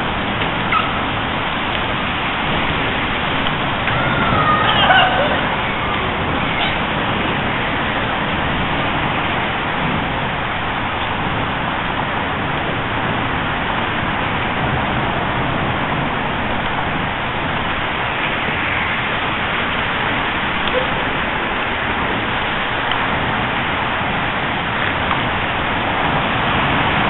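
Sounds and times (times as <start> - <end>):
steady highway traffic hiss: 0.0 - 27.0.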